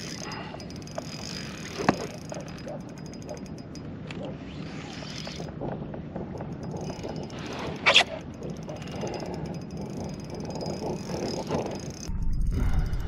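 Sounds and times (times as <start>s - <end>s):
fishing reel drag clicking: 0.0s - 5.6s, 6.2s - 12.1s
wind rumble on microphone: 1.8s - 13.0s.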